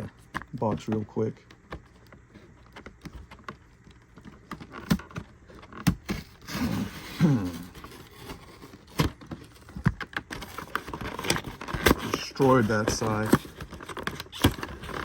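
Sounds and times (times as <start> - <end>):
cardboard scraping and creaking: 0.0 - 15.0.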